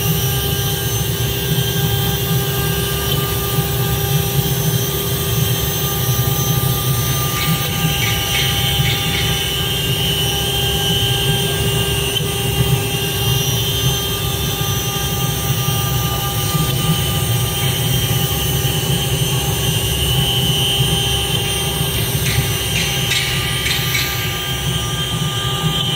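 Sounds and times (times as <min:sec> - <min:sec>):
cnc router whine: 0:00.0 - 0:25.9
constant low hum: 0:00.0 - 0:25.9.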